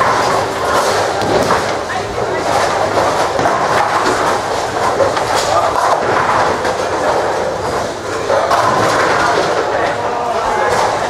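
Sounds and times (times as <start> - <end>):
bowling balls rolling: 0.0 - 11.0
bowling pins clattering: 0.0 - 11.0.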